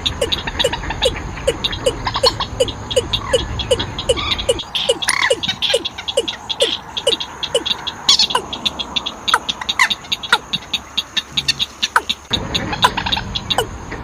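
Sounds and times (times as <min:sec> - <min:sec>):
birds calling in chorus: 0:00.0 - 0:14.0
sharp clicking bird notes: 0:00.0 - 0:14.0.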